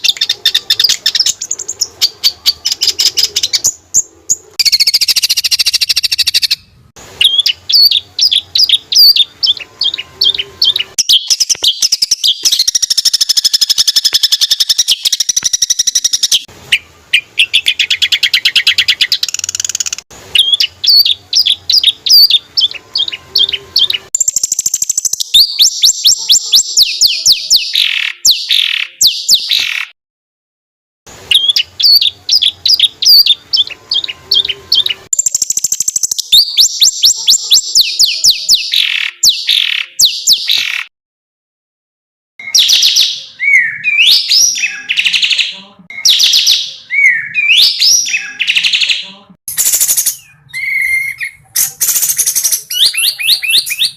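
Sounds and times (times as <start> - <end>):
songbird rapid chirps and trills: 0.0 - 6.6, 7.2 - 29.9, 31.3 - 40.9, 42.4 - 53.9.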